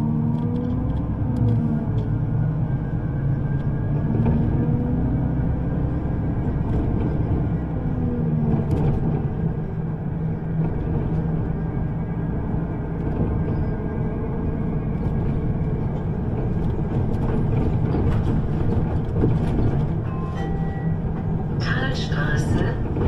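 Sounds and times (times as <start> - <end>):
vehicle interior rumble: 0.0 - 23.0.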